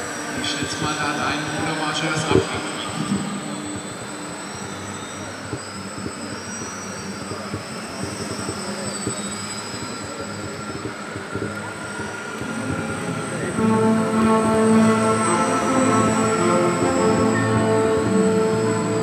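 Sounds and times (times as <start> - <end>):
exhibition hall noise: 0.0 - 19.0.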